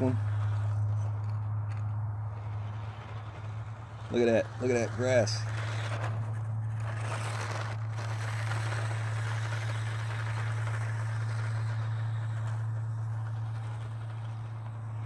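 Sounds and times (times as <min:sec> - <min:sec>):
rc truck motor whirring and rattling: 0:00.0 - 0:15.0
steady low hum: 0:00.0 - 0:15.0.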